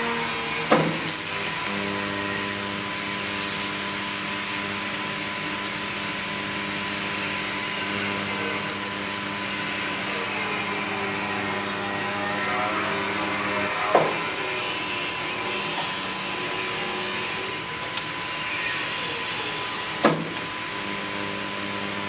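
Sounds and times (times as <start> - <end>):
welding arc buzzing and hissing: 0.0 - 22.0.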